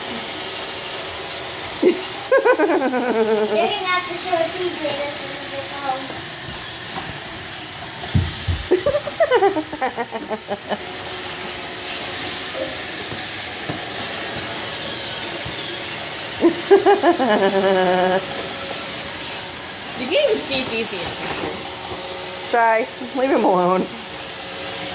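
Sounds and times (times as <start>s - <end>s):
robot vacuum whirring: 0.0s - 24.9s.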